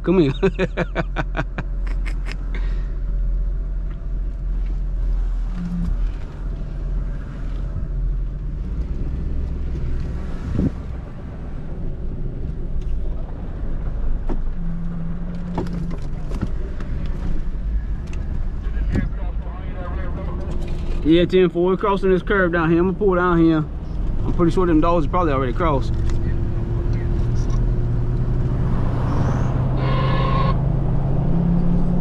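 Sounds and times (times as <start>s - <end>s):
vehicle engine and road rumble: 0.0s - 32.0s.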